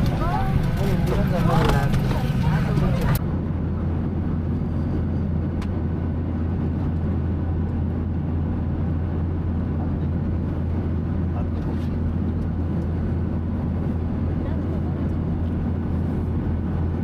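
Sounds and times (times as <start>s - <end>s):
jet engine drone in cabin: 0.0s - 17.0s.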